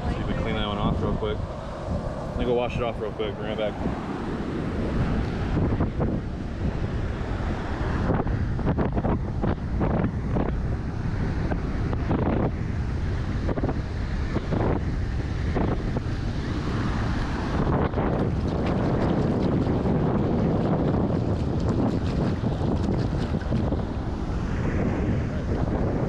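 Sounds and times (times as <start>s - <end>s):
surf washing: 0.0s - 26.0s
wind buffeting microphone: 0.0s - 26.0s.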